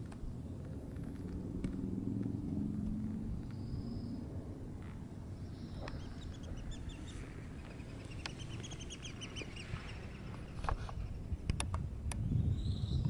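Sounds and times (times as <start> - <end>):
wind rumble: 0.0 - 13.0.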